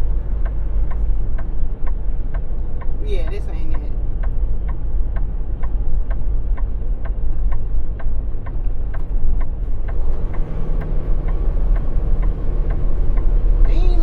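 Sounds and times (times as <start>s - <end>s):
diesel engine rumble: 0.0s - 14.0s
indicator ticking: 0.4s - 14.0s.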